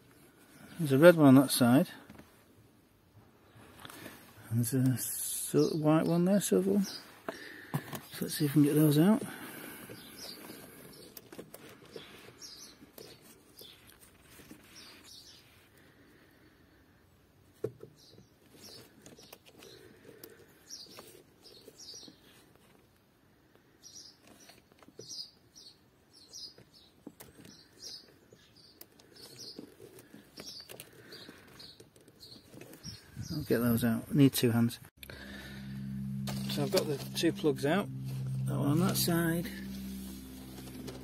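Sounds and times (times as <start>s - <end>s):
faint birds chirping: 3.0s - 41.0s.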